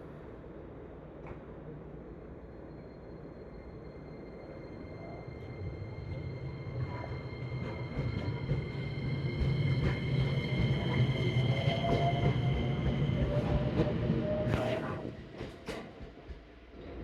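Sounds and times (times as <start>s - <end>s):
train high whine: 0.0s - 15.7s
electric train rumble: 0.0s - 17.0s.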